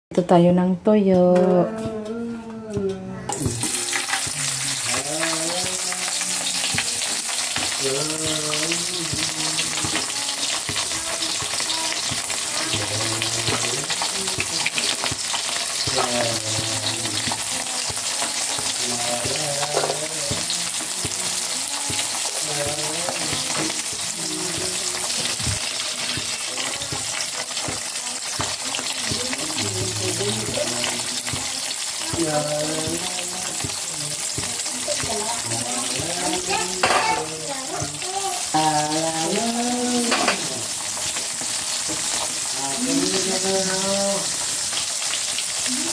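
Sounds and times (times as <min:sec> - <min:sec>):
fish sizzling in hot oil: 0:03.4 - 0:45.9.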